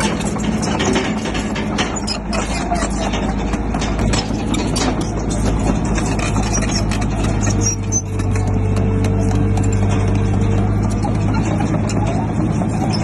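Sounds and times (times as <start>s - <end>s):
bulldozer diesel engine running: 0.0s - 13.0s
sharp metal clanks and rattles: 0.0s - 13.0s.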